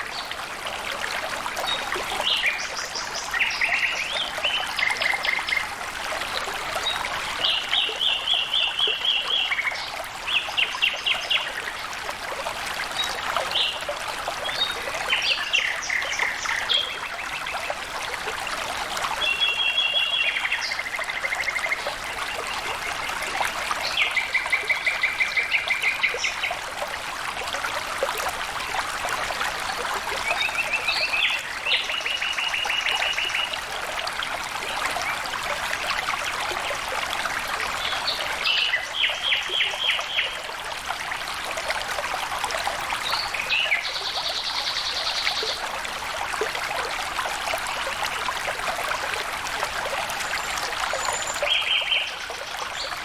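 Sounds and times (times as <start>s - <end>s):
water flowing and trickling: 0.0s - 53.0s.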